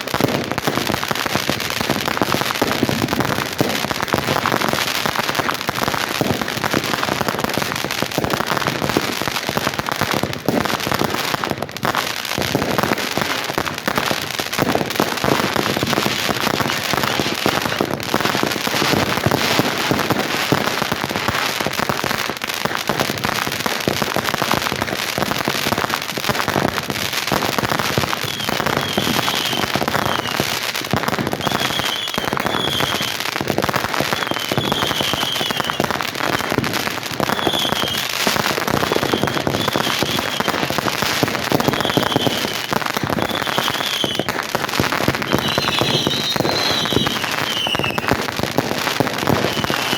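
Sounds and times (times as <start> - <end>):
fireworks pops and bangs: 0.0 - 49.9
fireworks whistles: 0.0 - 49.9.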